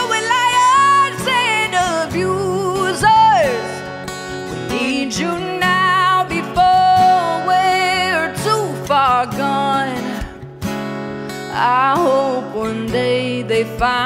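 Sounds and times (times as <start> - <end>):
acoustic guitar: 0.0 - 14.0
country song: 0.0 - 14.0.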